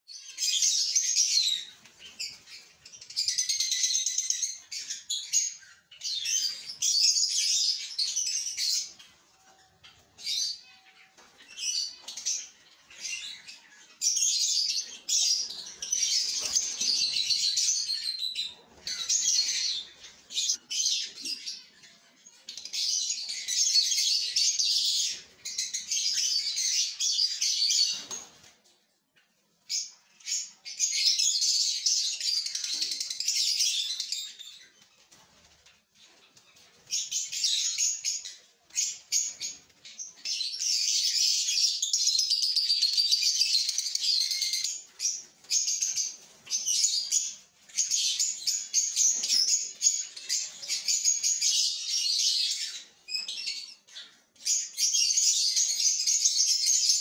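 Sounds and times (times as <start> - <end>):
lovebirds chirping: 0.1 - 28.5, 29.2 - 57.0.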